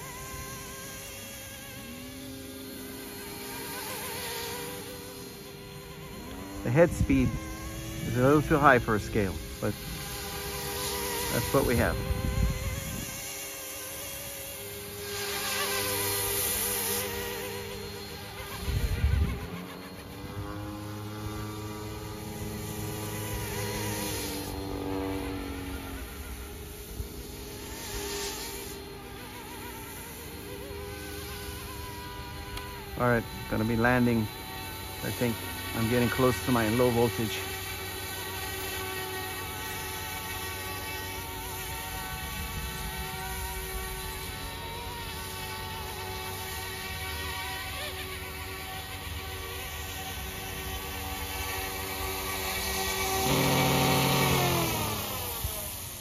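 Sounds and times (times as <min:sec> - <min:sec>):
rc helicopter buzzing whine: 0:00.0 - 0:56.0.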